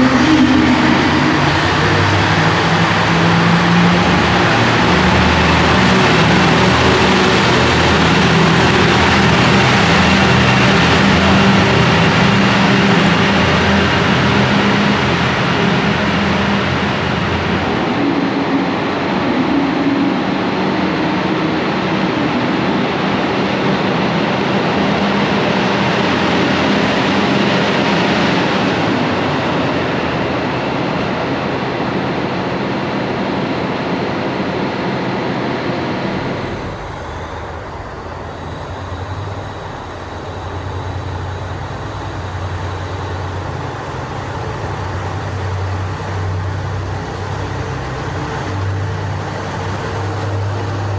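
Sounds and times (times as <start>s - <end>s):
diesel railcar running: 0.0s - 50.9s.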